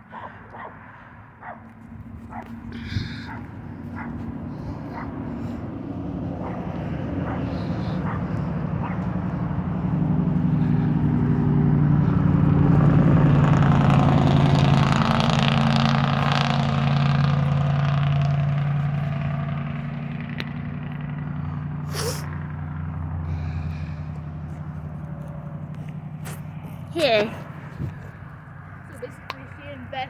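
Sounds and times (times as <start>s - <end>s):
vehicle engine passing by: 0.0s - 30.0s.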